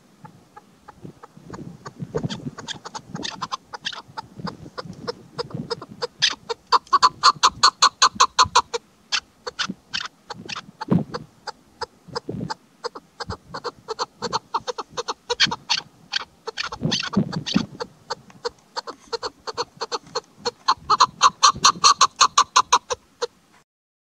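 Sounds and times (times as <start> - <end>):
partridge clucking calls: 0.0 - 23.4.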